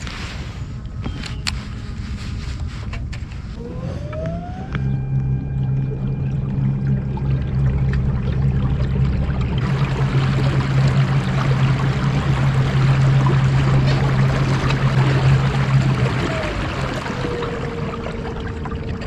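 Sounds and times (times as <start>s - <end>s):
low drive hum: 0.0s - 19.0s
water rushing along hull: 0.0s - 19.0s.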